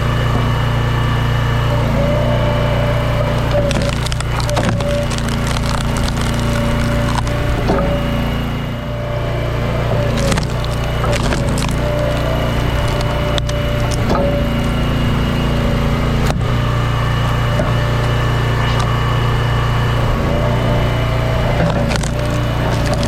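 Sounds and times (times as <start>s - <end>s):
log splitter engine running: 0.0s - 23.0s
wood cracking and splintering: 2.2s - 8.5s, 9.8s - 23.0s.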